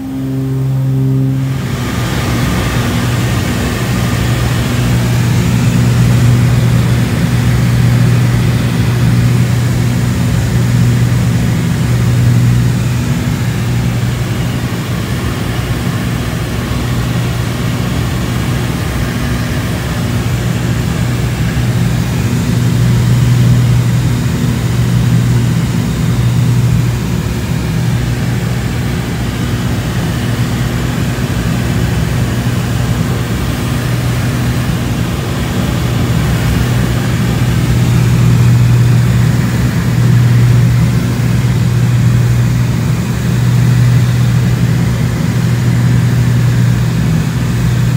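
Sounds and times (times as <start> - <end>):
propeller plane engines droning: 0.0 - 47.9.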